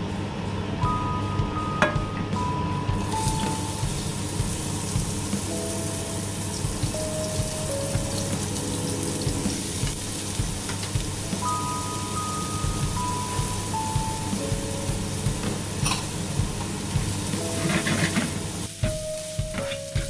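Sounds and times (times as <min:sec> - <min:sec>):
slow melodic background music: 0:00.0 - 0:20.0
water running from a tap: 0:03.0 - 0:20.0.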